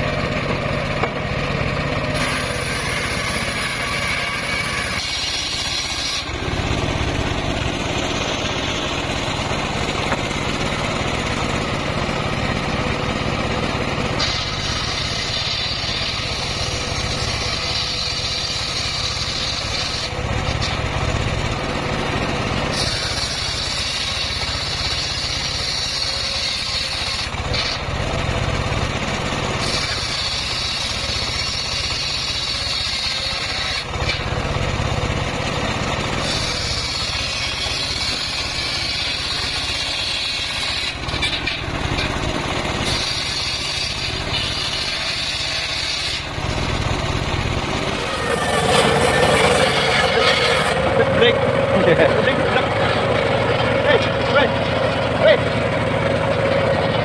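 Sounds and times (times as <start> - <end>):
circular saw cutting whine: 0.0 - 57.0
saw machine droning: 0.0 - 57.0.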